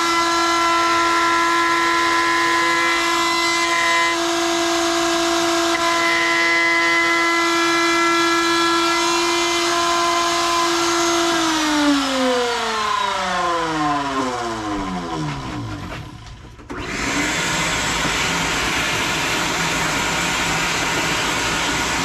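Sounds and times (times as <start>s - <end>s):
electric motor whining and spinning down: 0.0s - 22.0s.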